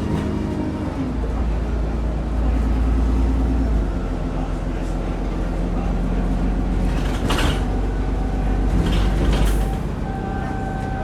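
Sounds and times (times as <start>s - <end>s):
bus engine hum: 0.0s - 11.0s.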